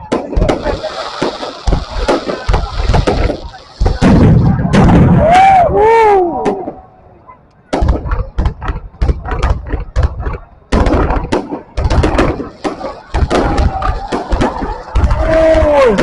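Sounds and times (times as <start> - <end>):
fireworks bangs and booms: 0.0 - 6.8, 7.6 - 16.0.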